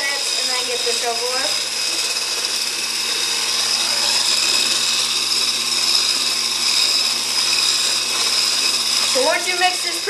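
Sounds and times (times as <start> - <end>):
electric mixer whining: 0.0 - 10.0.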